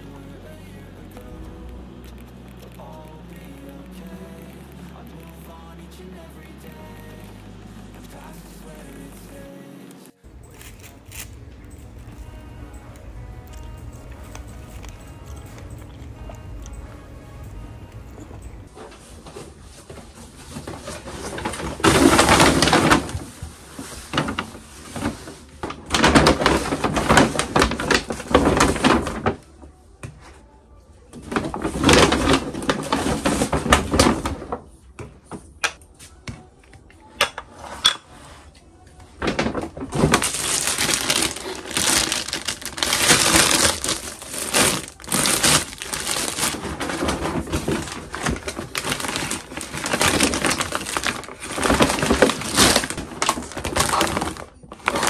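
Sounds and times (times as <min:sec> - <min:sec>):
shopping bags rustling: 0:00.0 - 0:29.8, 0:31.1 - 0:35.6, 0:39.0 - 0:55.0.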